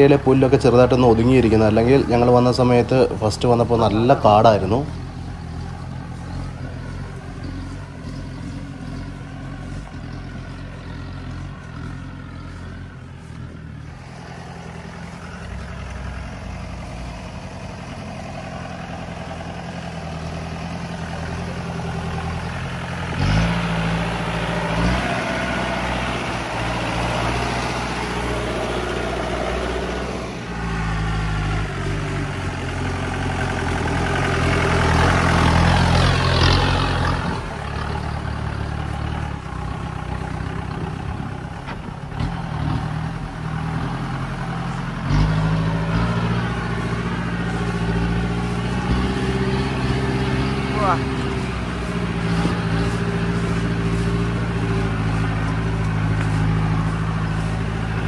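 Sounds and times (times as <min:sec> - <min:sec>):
diesel engine pulling uphill: 0:00.0 - 0:58.0.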